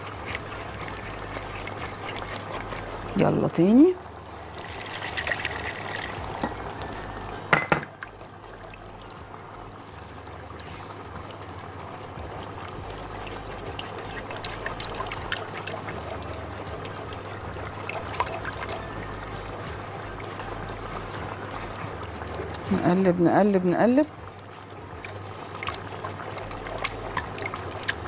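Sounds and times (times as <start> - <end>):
whisk sloshing in liquid: 0.0 - 7.4, 8.0 - 28.0.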